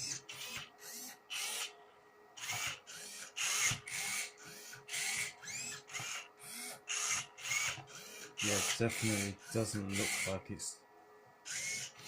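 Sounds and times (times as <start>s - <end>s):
robot motors whirring: 0.0s - 1.7s, 2.4s - 10.4s, 11.5s - 12.0s.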